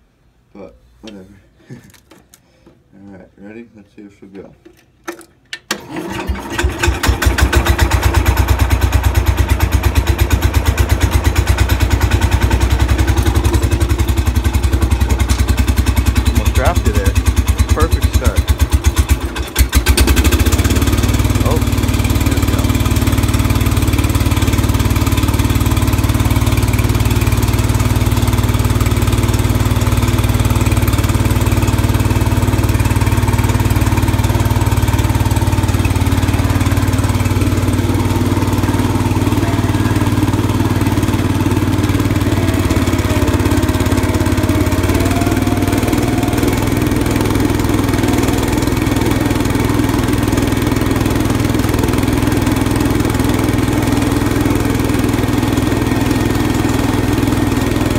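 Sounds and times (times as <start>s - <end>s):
garden tractor engine running: 5.5s - 57.9s.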